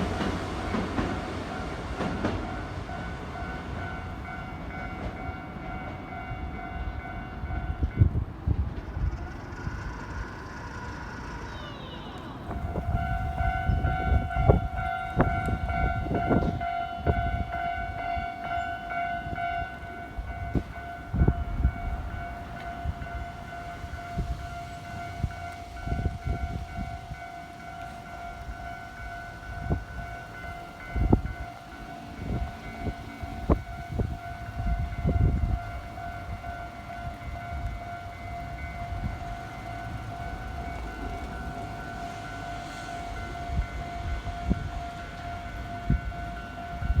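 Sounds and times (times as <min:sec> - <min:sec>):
crossing warning bell clanging: 0:00.0 - 0:47.0
train rumbling past: 0:00.0 - 0:47.0.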